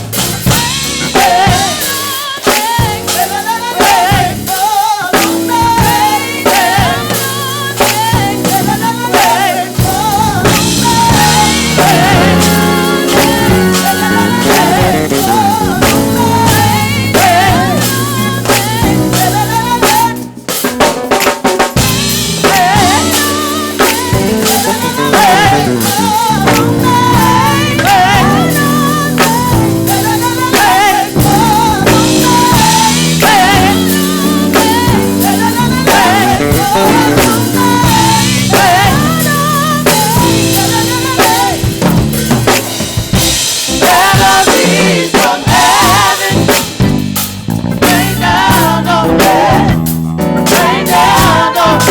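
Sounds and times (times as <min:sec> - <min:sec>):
bass drum: 0:00.0 - 0:04.6, 0:05.2 - 0:20.2, 0:21.8 - 0:51.9
church band playing: 0:00.0 - 0:51.9.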